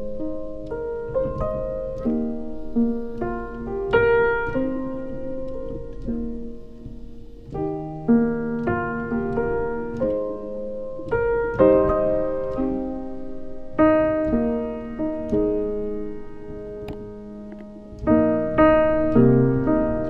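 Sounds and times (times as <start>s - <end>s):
slow piano chords ringing: 0.0s - 20.0s.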